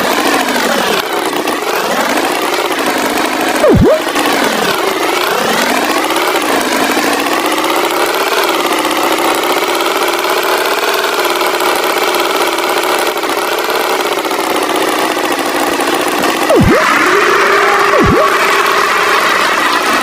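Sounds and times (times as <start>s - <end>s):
cartoon tractor engine running: 0.0s - 20.0s.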